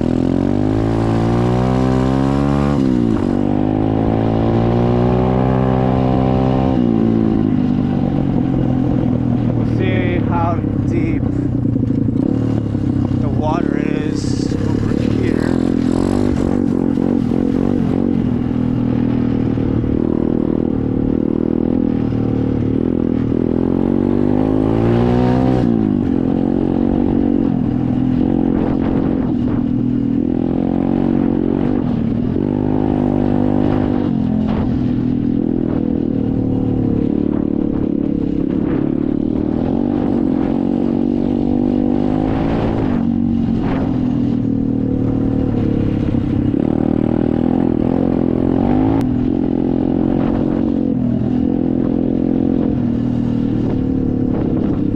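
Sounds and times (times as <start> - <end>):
pit bike engine revving: 0.0 - 54.9.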